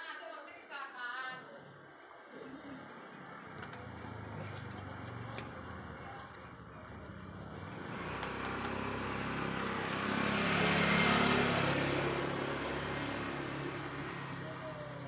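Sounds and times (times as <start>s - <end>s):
vehicle engine approaching: 2.7s - 15.0s.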